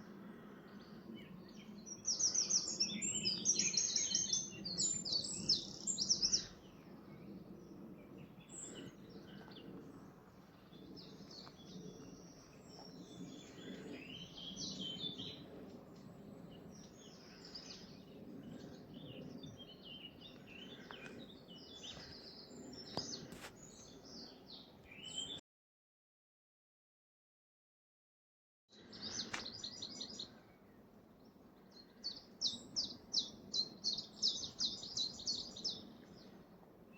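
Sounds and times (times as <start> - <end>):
songbirds singing: 0.0 - 25.4, 28.7 - 36.9.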